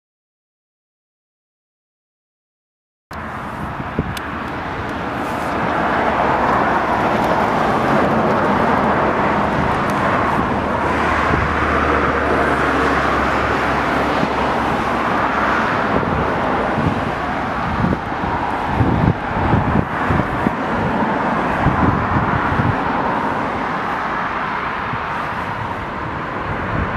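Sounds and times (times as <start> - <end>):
jet engines rushing: 3.1 - 26.9
wind rumbling on microphone: 3.1 - 26.9.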